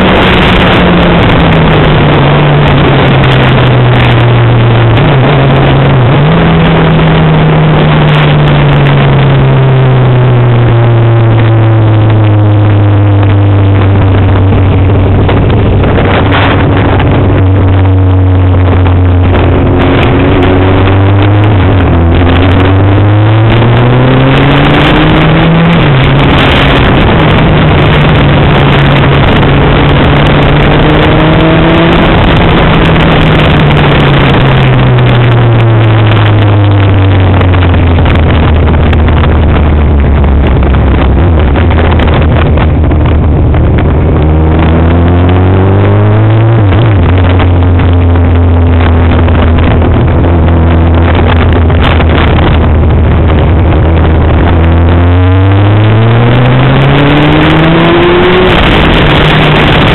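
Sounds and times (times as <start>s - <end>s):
constant rushing noise: 0.0s - 59.9s
engine running hard: 0.0s - 59.9s.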